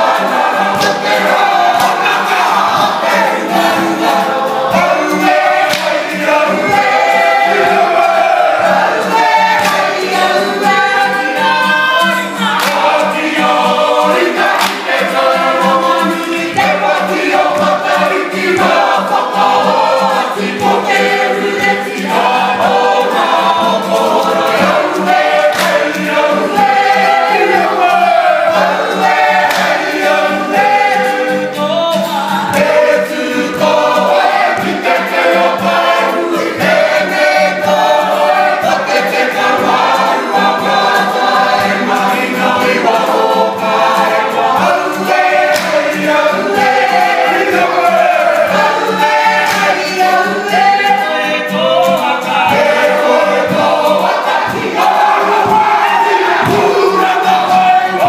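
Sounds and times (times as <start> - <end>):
group singing in unison: 0.0 - 58.0
strummed acoustic guitar: 0.0 - 58.0.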